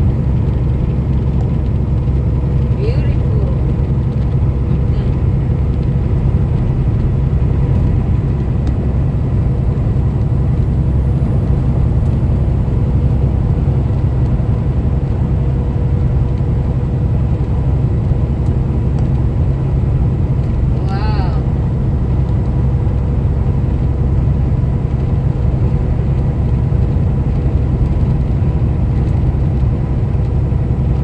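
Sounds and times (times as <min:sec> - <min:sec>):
road noise: 0:00.0 - 0:31.0
truck engine rumble: 0:00.0 - 0:31.0.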